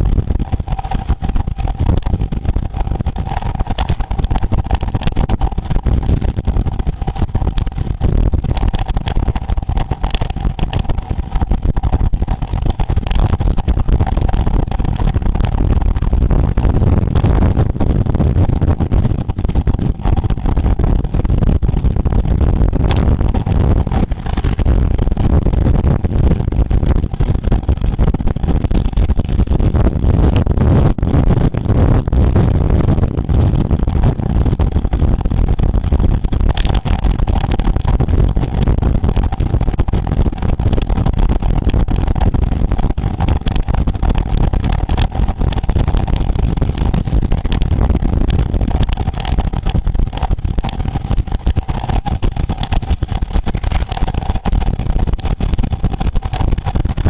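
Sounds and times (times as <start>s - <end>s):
faint steady hum: 0.0s - 57.0s
wind rushing over microphone: 0.0s - 57.0s.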